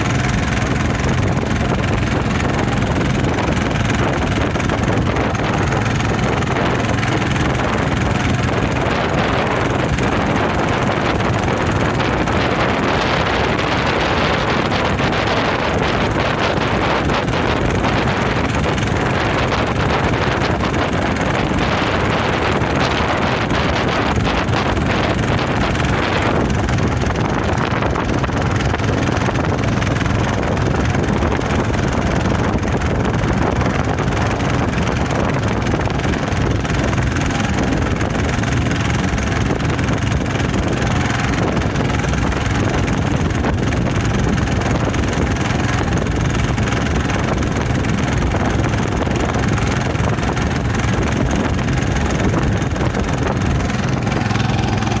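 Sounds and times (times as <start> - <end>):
motorboat engine running: 0.0 - 55.0
water noise: 0.0 - 55.0
wind: 0.0 - 55.0.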